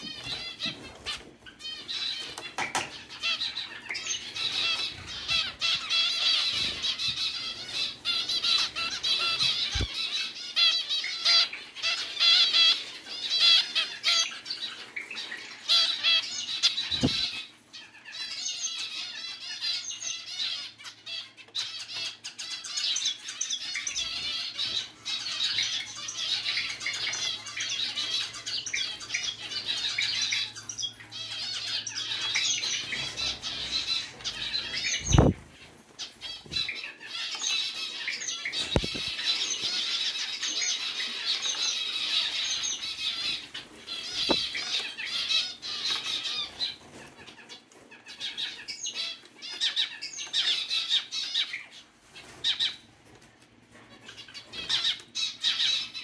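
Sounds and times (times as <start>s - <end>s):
zebra finches beeping: 0.0s - 52.9s, 54.0s - 56.0s.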